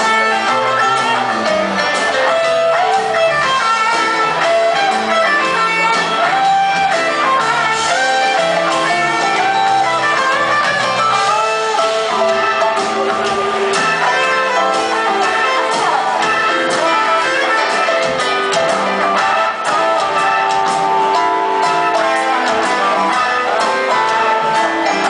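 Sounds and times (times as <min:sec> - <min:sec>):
electric guitar lead: 0:00.0 - 0:25.0
rock band playing: 0:00.0 - 0:25.0.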